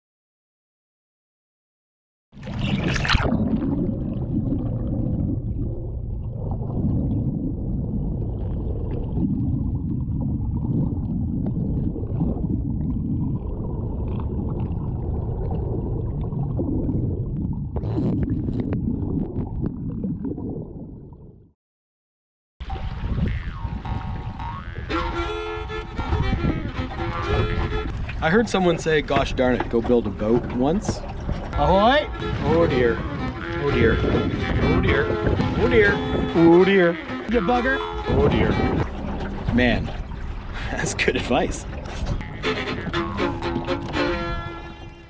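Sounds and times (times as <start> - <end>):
water rushing and gurgling: 2.4 - 21.2, 22.6 - 45.0.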